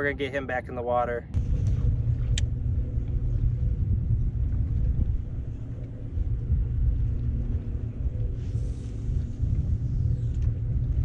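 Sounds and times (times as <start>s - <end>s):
faint steady hum: 1.3s - 11.0s
wind buffeting microphone: 1.3s - 11.0s.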